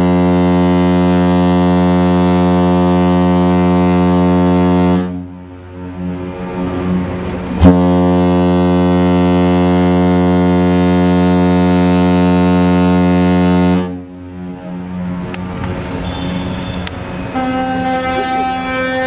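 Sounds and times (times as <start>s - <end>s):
ship's horn blast: 0.0s - 14.5s, 16.0s - 19.0s.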